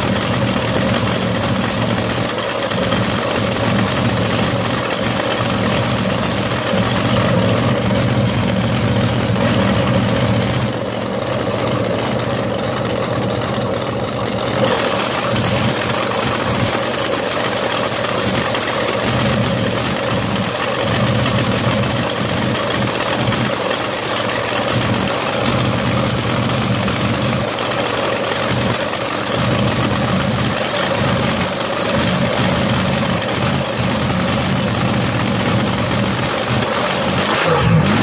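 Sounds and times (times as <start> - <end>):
boat engine idling: 0.0 - 37.4.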